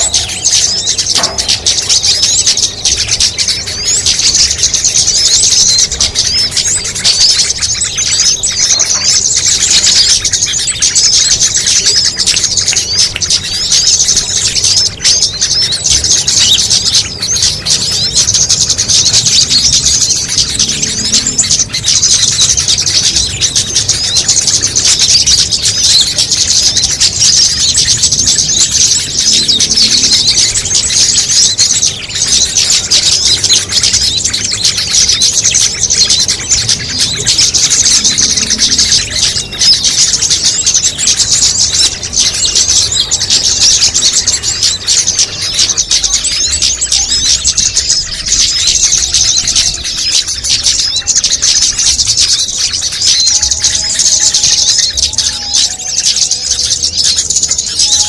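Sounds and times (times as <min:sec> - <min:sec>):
chorus of songbirds chirping: 0:00.0 - 0:58.0.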